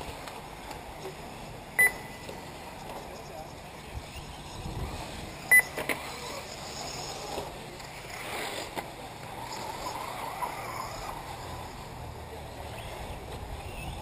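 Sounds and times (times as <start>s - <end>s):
model cars running on dirt: 2.4s - 14.0s.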